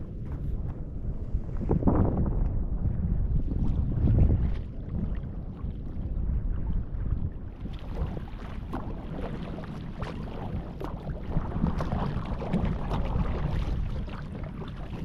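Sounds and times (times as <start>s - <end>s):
water splashing around kayak: 0.0s - 15.0s
wind rumble on microphone: 0.0s - 15.0s.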